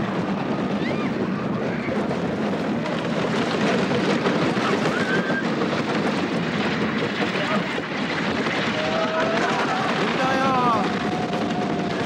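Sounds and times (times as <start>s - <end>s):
roller coaster rumbling on track: 0.0s - 12.0s
wind rushing over microphone: 0.0s - 12.0s.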